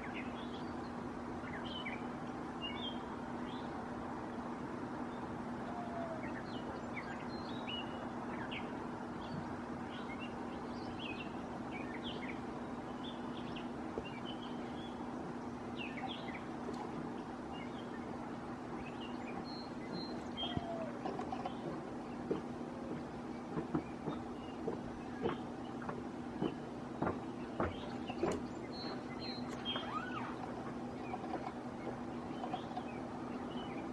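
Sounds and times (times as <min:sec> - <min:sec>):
birds chirping: 0:00.0 - 0:33.9
steady low hum: 0:00.0 - 0:33.9.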